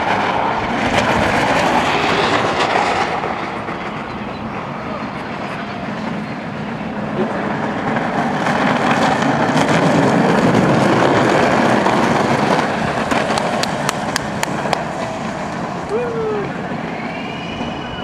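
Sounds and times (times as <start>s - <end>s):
small wheels rolling on asphalt: 0.0s - 18.0s.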